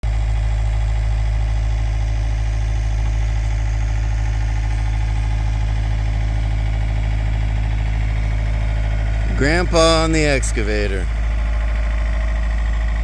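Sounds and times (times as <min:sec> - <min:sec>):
excavator engine idling: 0:00.0 - 0:13.0.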